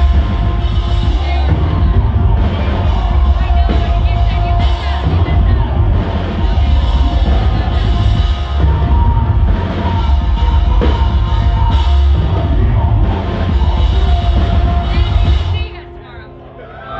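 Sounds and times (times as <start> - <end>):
pounding drum kit: 0.0 - 16.2
metal band playing: 0.0 - 16.6
electric guitars: 0.0 - 16.9.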